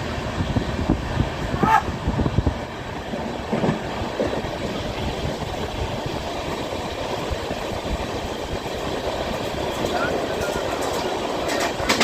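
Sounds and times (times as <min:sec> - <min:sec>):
train rattling on tracks: 0:00.0 - 0:12.0.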